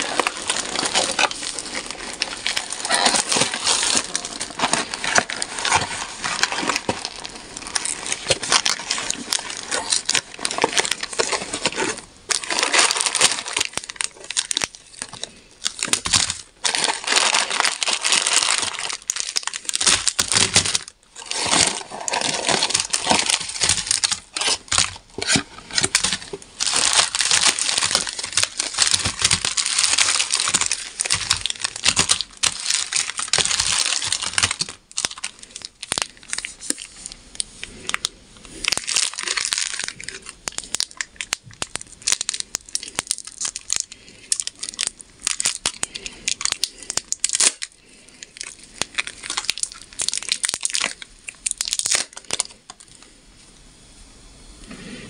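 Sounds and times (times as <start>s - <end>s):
wrapper tearing open: 0.0s - 52.8s
plastic wrappers crinkling: 0.0s - 53.0s.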